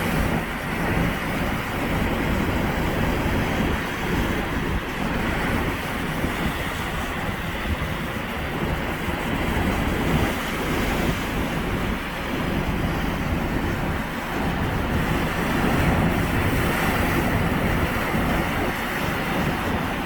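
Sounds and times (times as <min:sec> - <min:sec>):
sea surf washing on shore: 0:00.0 - 0:20.0
wind buffeting microphone: 0:00.0 - 0:20.0.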